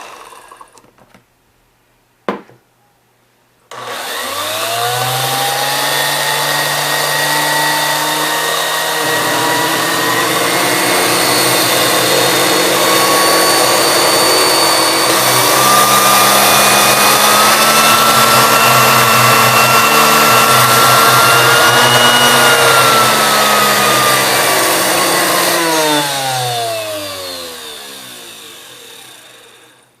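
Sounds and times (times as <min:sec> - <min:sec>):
blender motor whining: 0:00.0 - 0:00.8, 0:03.7 - 0:30.0.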